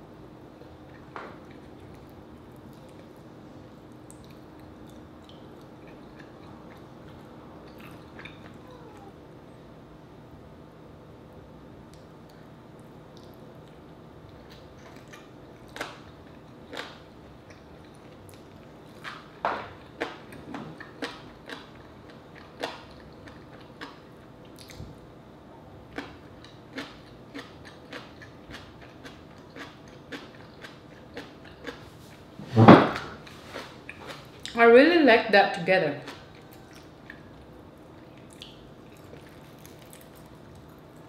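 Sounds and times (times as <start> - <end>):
person chewing with wet smacks: 0.6 - 9.2, 11.8 - 25.0, 25.9 - 32.3, 33.2 - 34.6, 36.0 - 41.0.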